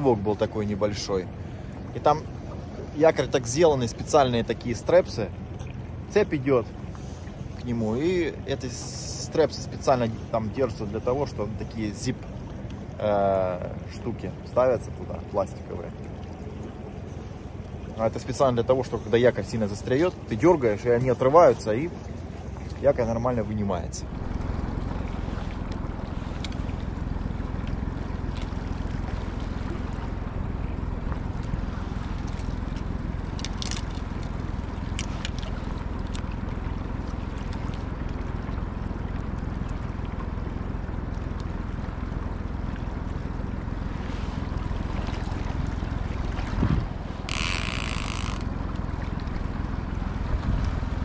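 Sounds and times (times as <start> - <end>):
boat engine hum: 0.0 - 51.0
water noise: 0.0 - 51.0
wind: 0.0 - 51.0.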